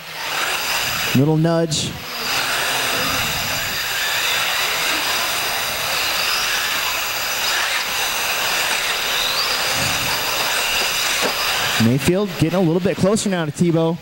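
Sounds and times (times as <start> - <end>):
electric motors whining: 0.0 - 14.0
rc car accelerating whine: 0.0 - 14.0.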